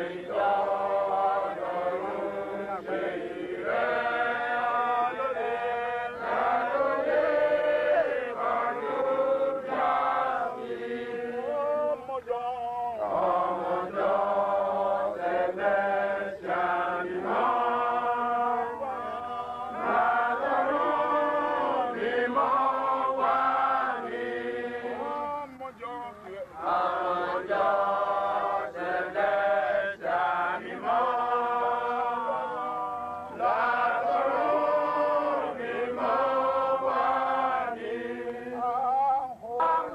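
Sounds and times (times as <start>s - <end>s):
voices chanting a prayer: 0.0s - 39.9s.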